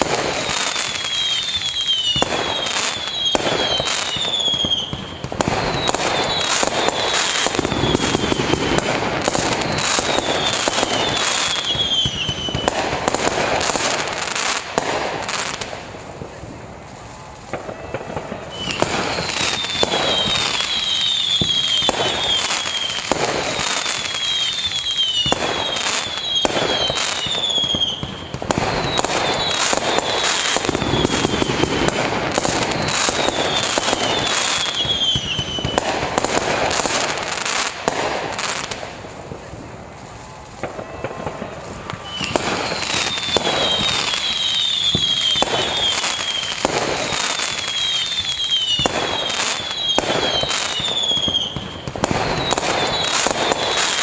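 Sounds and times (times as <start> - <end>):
falling firework whistles: 0.0 - 54.0
fireworks bangs and crackling: 0.0 - 54.0.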